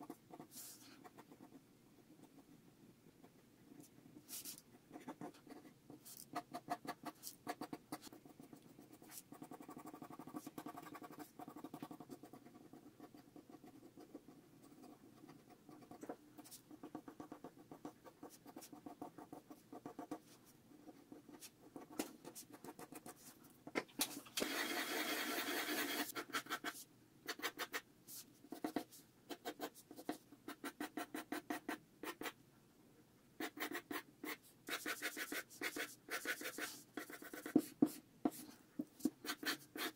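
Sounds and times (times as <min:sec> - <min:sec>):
pencil scratching on paper: 0:00.0 - 0:01.6, 0:03.7 - 0:23.4, 0:24.4 - 0:32.4, 0:33.4 - 0:39.9.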